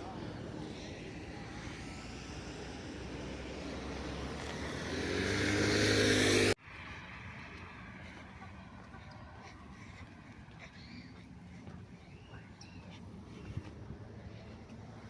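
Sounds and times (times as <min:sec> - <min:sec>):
vehicle engine approaching: 0:00.0 - 0:15.0.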